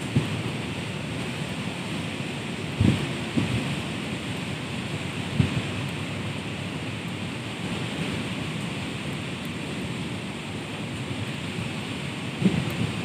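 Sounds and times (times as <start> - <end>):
wind buffeting microphone: 0.0 - 13.0
wind rushing through trees: 0.0 - 13.0.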